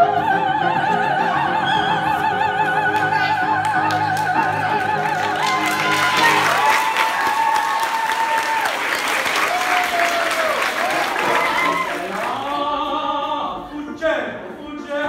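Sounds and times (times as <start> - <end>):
operatic soprano singing: 0.0 - 8.1, 11.0 - 15.0.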